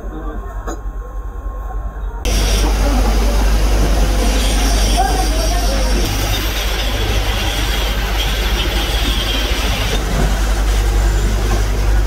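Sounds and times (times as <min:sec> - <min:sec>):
sand-mixing machine humming: 0:02.3 - 0:12.0.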